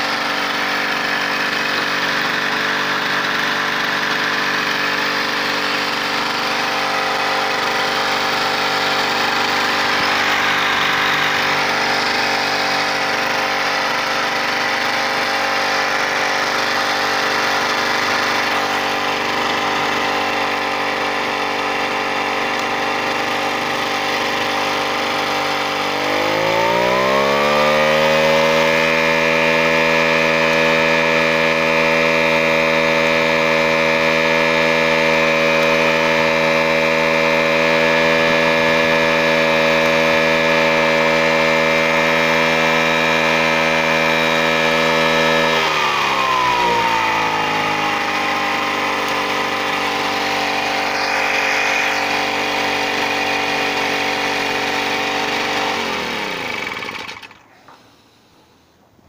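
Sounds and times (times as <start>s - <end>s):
two-stroke generator engine running: 0.0s - 58.5s.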